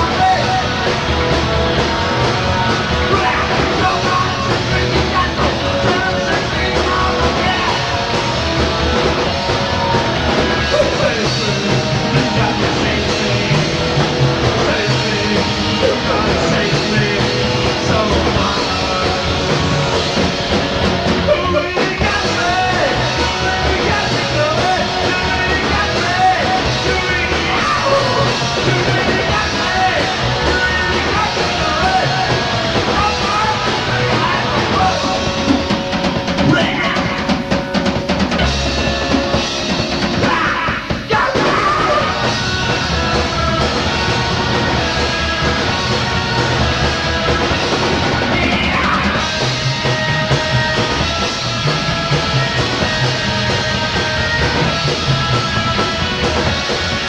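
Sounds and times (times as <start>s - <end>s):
person singing: 0.0s - 20.4s, 21.1s - 57.0s
drum kit: 0.0s - 57.0s
rock band playing: 0.0s - 57.0s.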